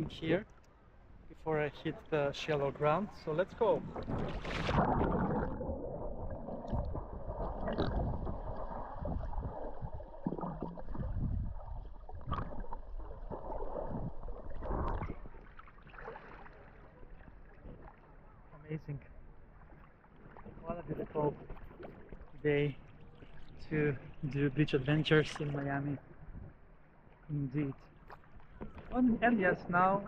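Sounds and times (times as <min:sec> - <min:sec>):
water sloshing and gurgling: 0:00.0 - 0:30.0.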